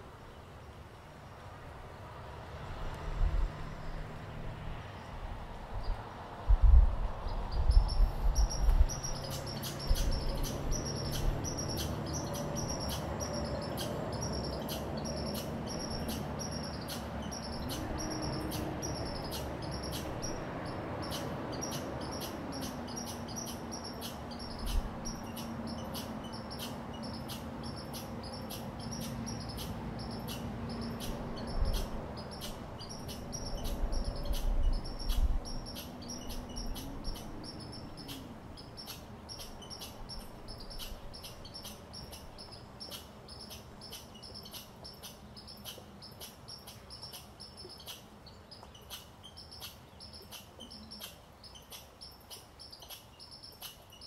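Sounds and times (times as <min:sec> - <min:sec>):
chipmunk chip calls: 0:07.2 - 0:54.0.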